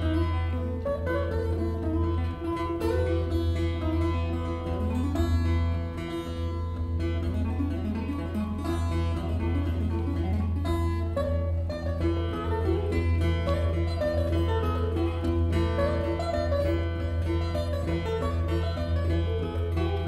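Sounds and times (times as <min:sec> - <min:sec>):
fingerstyle acoustic guitar: 0:00.0 - 0:20.0.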